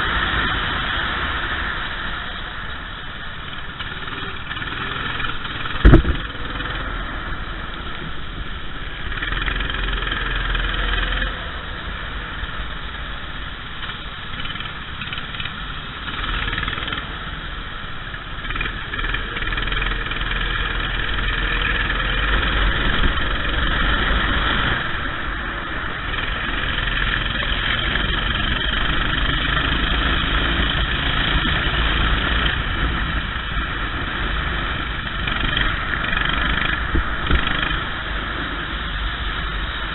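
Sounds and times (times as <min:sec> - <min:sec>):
racing kart engine running: 0:00.0 - 0:39.9.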